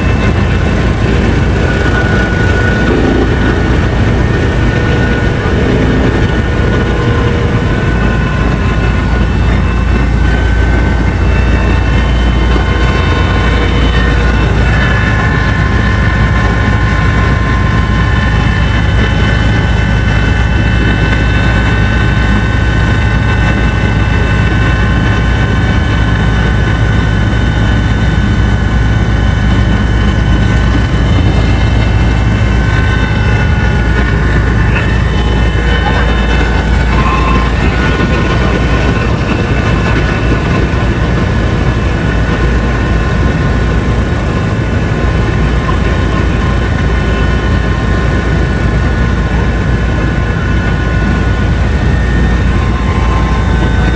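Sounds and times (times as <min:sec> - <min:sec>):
helicopter drone with whining tones: 0:00.0 - 0:53.9.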